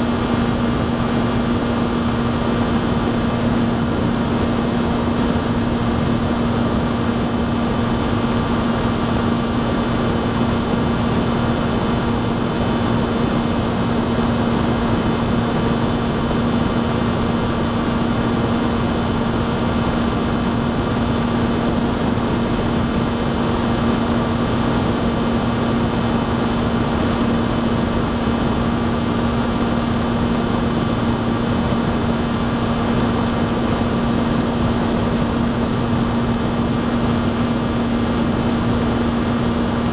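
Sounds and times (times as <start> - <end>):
aircraft motor and propeller drone: 0.0 - 39.9
rushing wind noise: 0.0 - 39.9.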